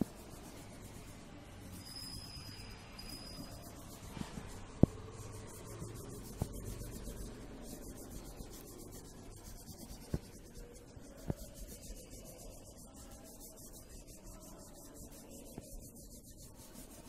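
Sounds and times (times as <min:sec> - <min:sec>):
crayon scratching on paper: 0:00.0 - 0:17.0.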